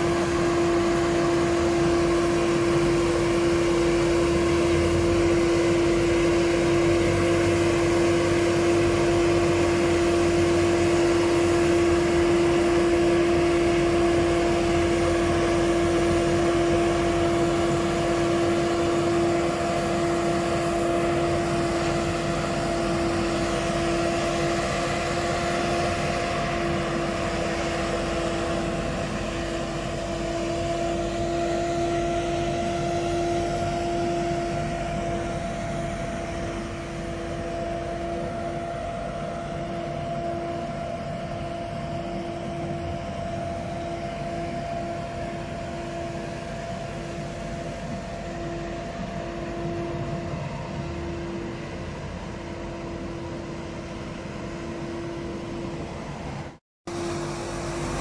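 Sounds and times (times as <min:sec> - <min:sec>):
street sweeper truck droning: 0:00.0 - 0:58.0.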